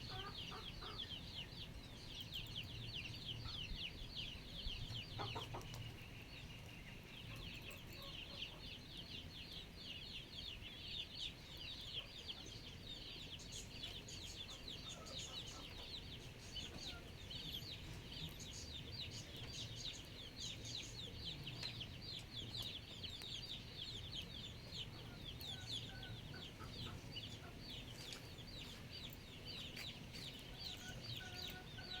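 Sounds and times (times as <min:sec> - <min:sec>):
many birds chirping: 0:00.0 - 0:32.0.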